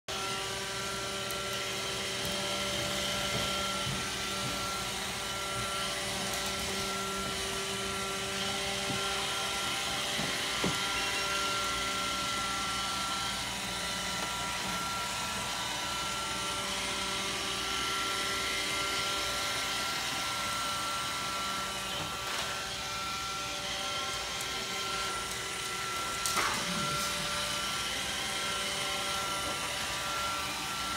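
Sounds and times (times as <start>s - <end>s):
robot vacuum motor whine: 0.1s - 30.9s.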